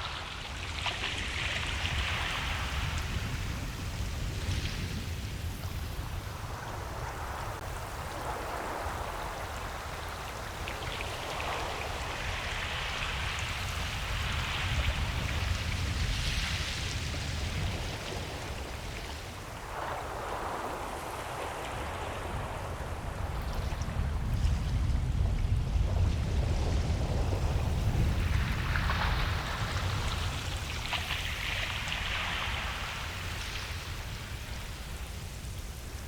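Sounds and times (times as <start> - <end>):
ocean surf washing onto beach: 0.0 - 36.0.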